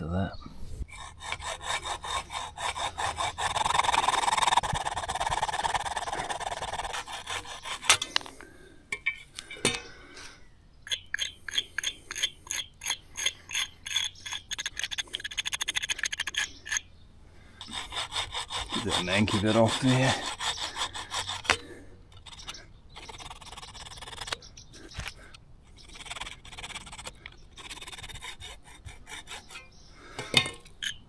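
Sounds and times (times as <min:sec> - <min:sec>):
tool scraping lead: 0:00.7 - 0:08.4, 0:10.9 - 0:16.8, 0:17.6 - 0:25.2, 0:25.8 - 0:31.0
hacksaw cutting lead: 0:00.8 - 0:08.3, 0:10.9 - 0:16.8, 0:17.6 - 0:24.4, 0:25.8 - 0:31.0.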